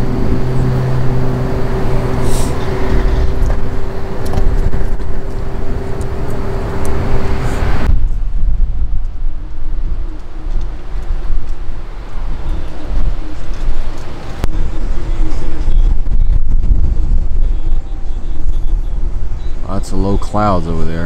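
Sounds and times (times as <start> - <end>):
low hum: 0.0 - 21.0
wind rumble on microphone: 0.0 - 21.0.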